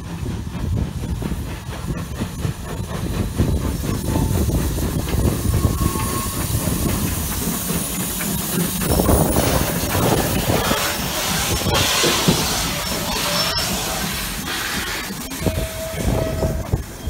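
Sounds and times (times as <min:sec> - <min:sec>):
steam hissing: 0:00.0 - 0:17.0
steam locomotive rumbling: 0:00.0 - 0:17.0.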